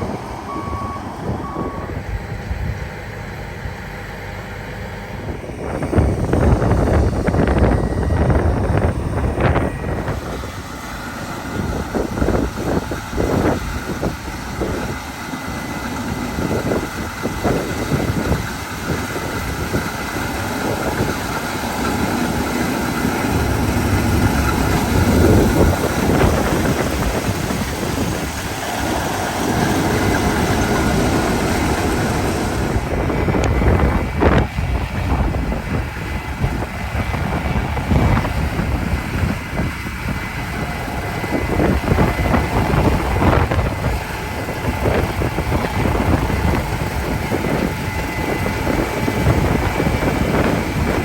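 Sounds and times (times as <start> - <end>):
harvest machinery engine drone: 0.0 - 51.0
wind buffeting microphone: 0.0 - 51.0.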